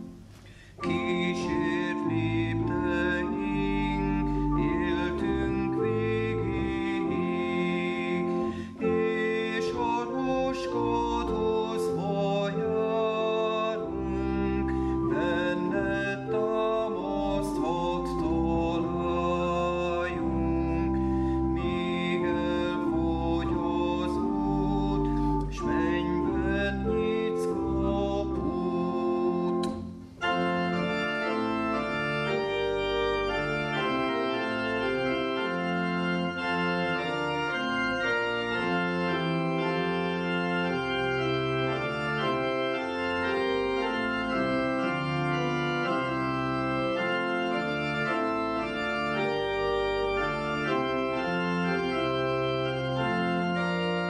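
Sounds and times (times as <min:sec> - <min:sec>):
church organ chords: 0:00.0 - 0:54.0
man singing a hymn: 0:00.6 - 0:53.9.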